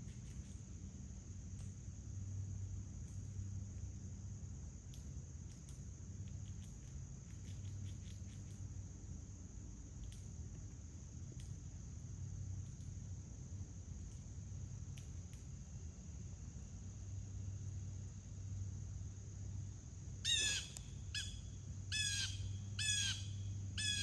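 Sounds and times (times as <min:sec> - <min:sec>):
high-pitched insect chorus: 0:00.0 - 0:24.0
low steady hum: 0:00.0 - 0:24.0.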